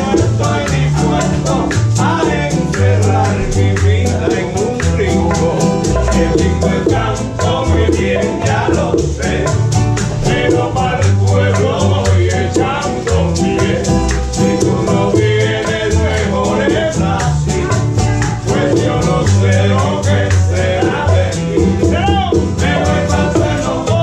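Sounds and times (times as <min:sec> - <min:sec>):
upbeat song with singing: 0:00.0 - 0:24.0.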